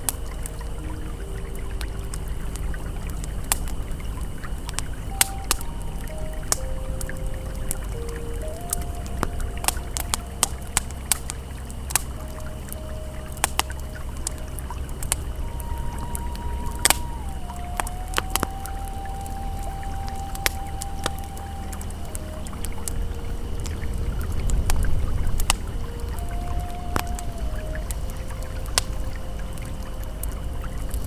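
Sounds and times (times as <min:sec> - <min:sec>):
campfire crackling and popping: 0:00.0 - 0:31.0
held ambient tone: 0:00.0 - 0:31.0
river flowing: 0:00.0 - 0:31.0.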